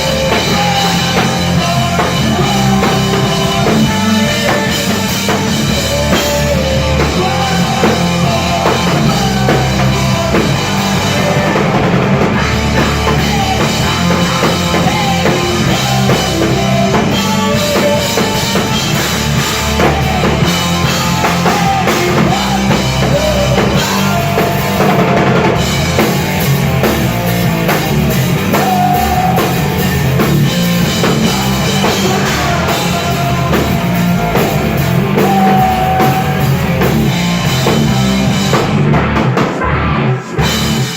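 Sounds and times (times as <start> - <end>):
bass drum: 0.0 - 40.9
live rock band playing: 0.0 - 40.9.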